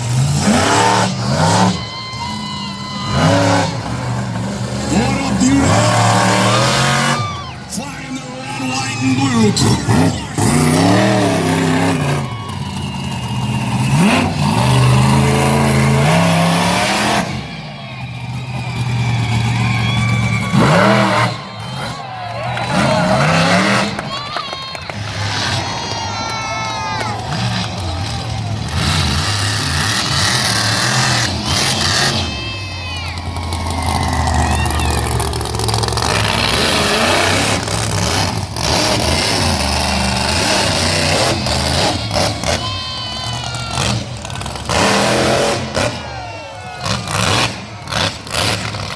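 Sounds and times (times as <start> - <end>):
truck engine revving hard: 0.0 - 48.9.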